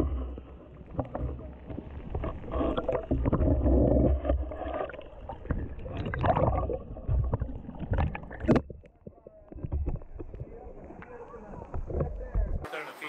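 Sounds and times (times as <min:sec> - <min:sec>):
muffled underwater churning: 0:00.0 - 0:12.7.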